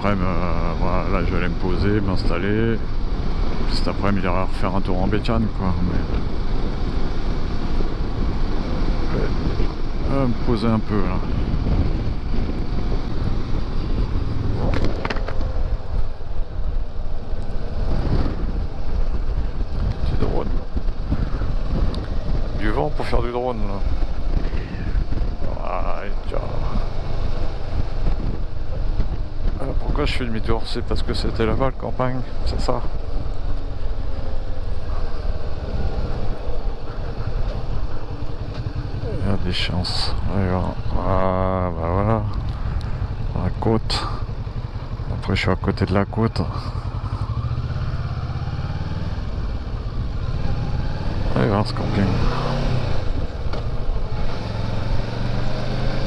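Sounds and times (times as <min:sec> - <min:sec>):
motorcycle engine and road noise: 0:00.0 - 0:56.0
wind buffeting microphone: 0:00.0 - 0:56.0.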